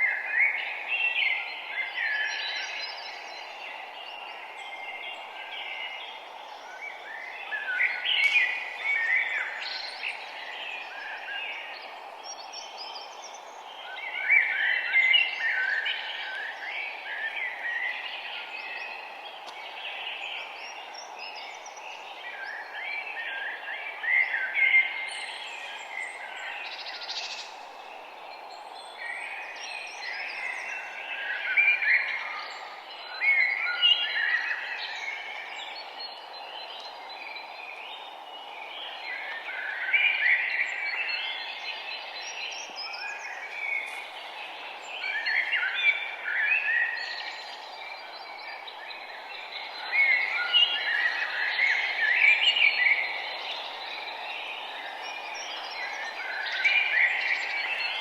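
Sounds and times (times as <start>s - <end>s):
outdoor ambience hiss: 0.0s - 58.0s
songbirds chirping and singing: 0.0s - 58.0s.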